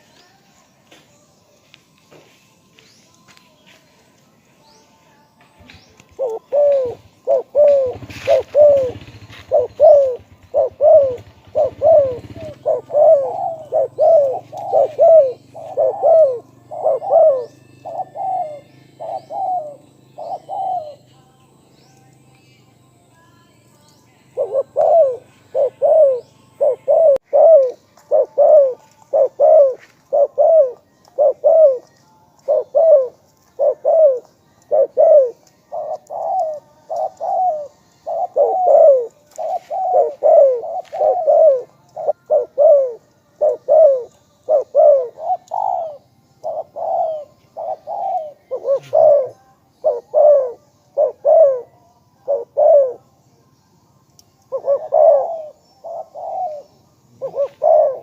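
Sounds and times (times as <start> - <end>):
dove cooing: 5.8 - 21.1, 24.2 - 53.1, 54.4 - 58.0.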